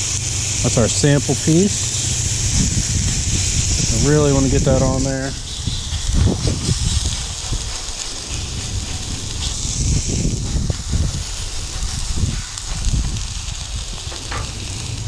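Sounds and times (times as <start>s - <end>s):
low rumble: 0.0s - 15.0s
steak sizzling on griddle: 0.0s - 15.0s.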